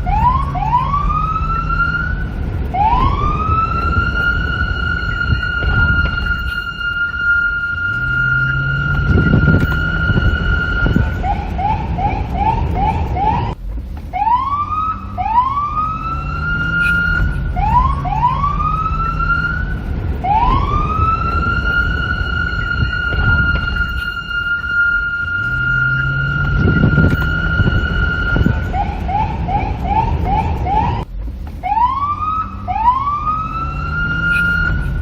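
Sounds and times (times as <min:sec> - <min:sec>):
low vehicle rumble: 0:00.0 - 0:35.0
police siren: 0:00.0 - 0:35.0.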